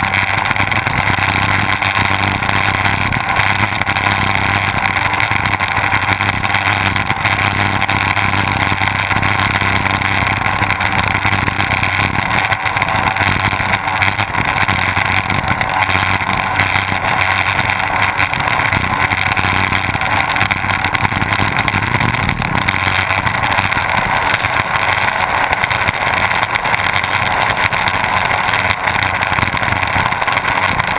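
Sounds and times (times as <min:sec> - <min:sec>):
outboard motors droning: 0:00.0 - 0:30.9.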